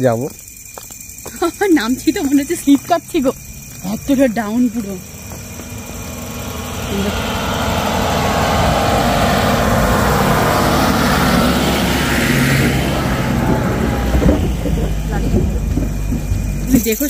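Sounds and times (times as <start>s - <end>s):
car engine running: 1.0s - 17.0s.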